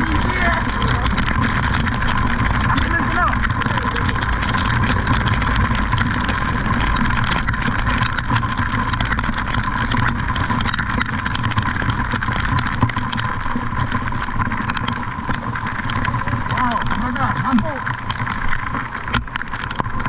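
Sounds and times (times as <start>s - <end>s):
engine running: 0.0s - 20.0s
noisy rush: 0.0s - 20.0s.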